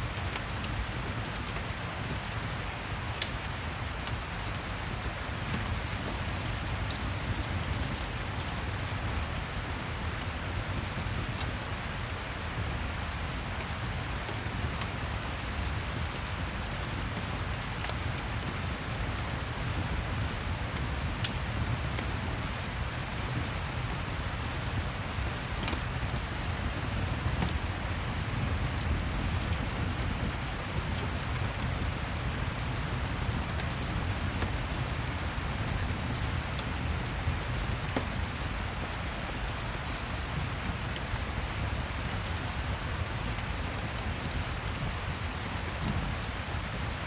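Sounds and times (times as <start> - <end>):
fireplace crackles: 0.0 - 14.9, 16.9 - 47.0
steady rain falling: 0.0 - 47.0.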